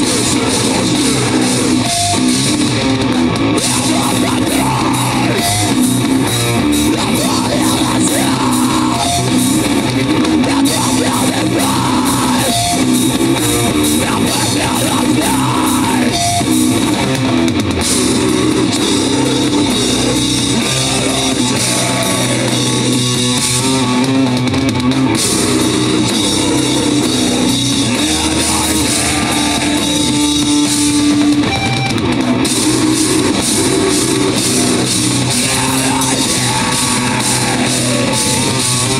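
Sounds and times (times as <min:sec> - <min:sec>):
distorted guitars: 0:00.0 - 0:38.9
drum kit beat: 0:00.0 - 0:38.9.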